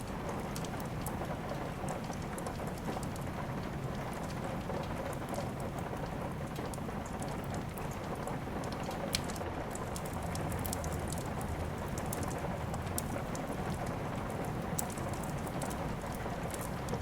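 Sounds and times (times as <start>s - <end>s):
sharp crackles and ticks: 0.0s - 17.0s
steady rain: 0.0s - 17.0s.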